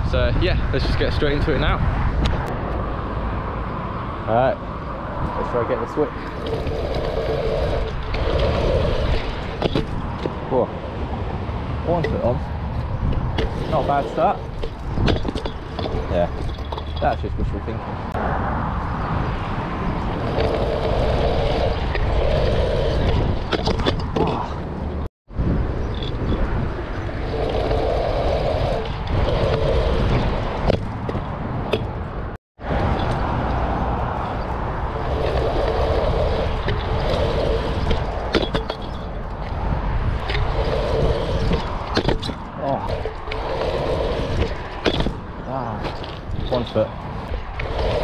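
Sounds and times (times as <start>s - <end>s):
scooter wheels rolling on tarmac: 4.2s - 48.0s.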